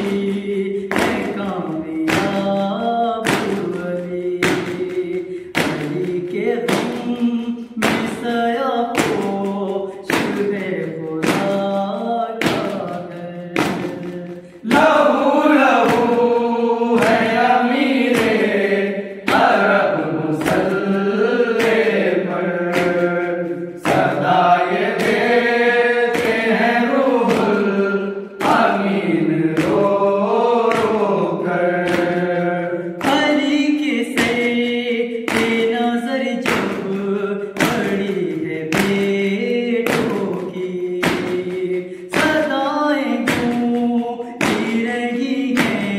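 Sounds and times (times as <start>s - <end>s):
hand slaps: 0.0s - 8.3s, 8.9s - 16.4s, 17.0s - 39.2s, 39.8s - 45.9s
men chanting in unison: 0.0s - 45.9s.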